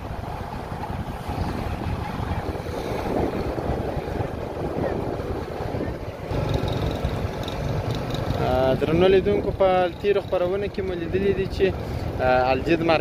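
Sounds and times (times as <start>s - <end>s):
wind on microphone: 0.0s - 10.4s
road traffic: 0.0s - 13.0s.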